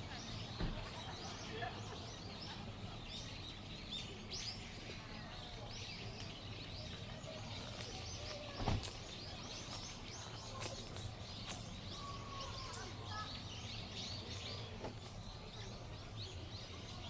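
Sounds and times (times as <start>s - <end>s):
faint outdoor background: 0.0s - 17.0s
small birds chirping: 0.0s - 17.0s.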